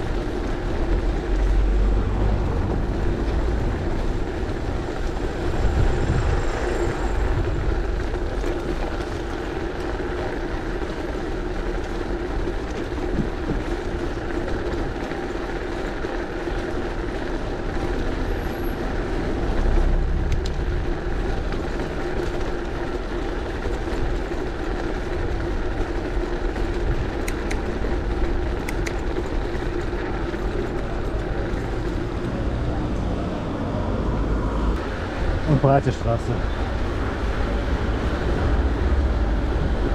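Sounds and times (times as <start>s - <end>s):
bike rattling over cobblestones: 0.0s - 39.9s.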